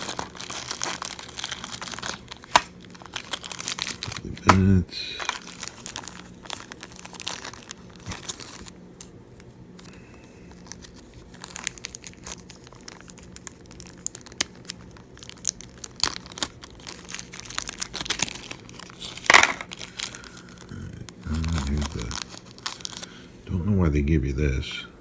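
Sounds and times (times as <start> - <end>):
plastic packaging crinkling: 0.0 - 9.1, 9.8 - 23.3
faint low hum: 0.0 - 25.0.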